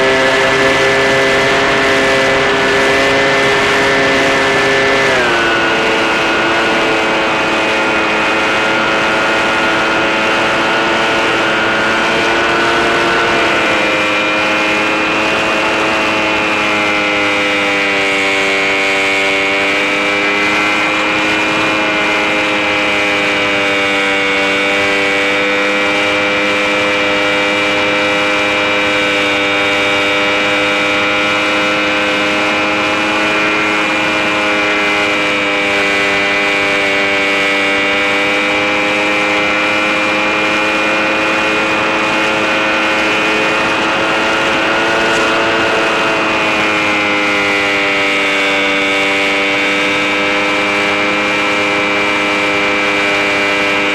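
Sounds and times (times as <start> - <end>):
electric motor propeller whine: 0.0 - 53.9.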